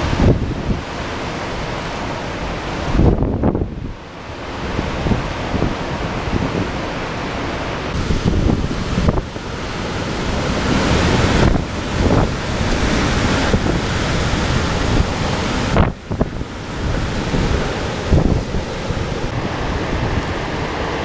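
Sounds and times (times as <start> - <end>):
heavy rain: 0.0 - 21.0
strong wind gusting: 0.0 - 21.0
wind buffeting microphone: 0.0 - 21.0.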